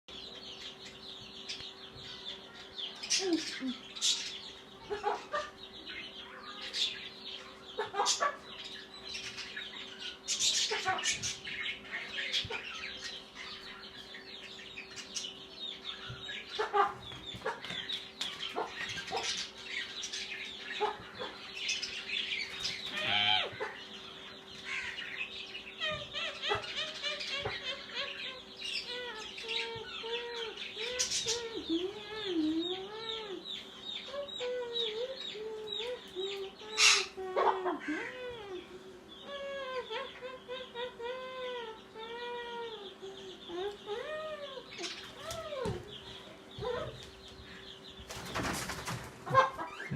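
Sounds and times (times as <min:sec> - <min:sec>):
faint steady hum: 0:00.1 - 0:49.9
parakeets squawking: 0:01.5 - 0:38.4, 0:39.2 - 0:48.0, 0:49.2 - 0:49.9.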